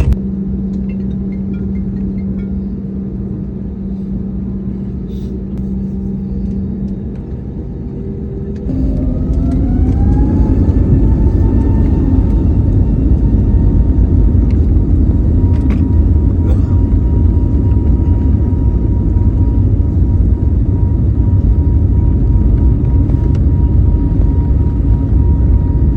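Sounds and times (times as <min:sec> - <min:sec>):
faint steady whine: 0:00.0 - 0:25.9
jet engines droning: 0:00.0 - 0:25.9.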